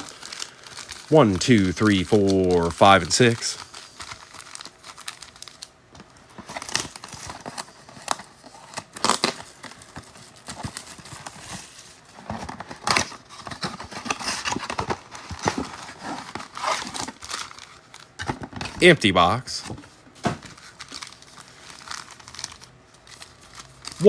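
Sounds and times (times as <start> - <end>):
foil wrappers crinkling and tearing: 0.0 - 19.5, 20.4 - 24.0.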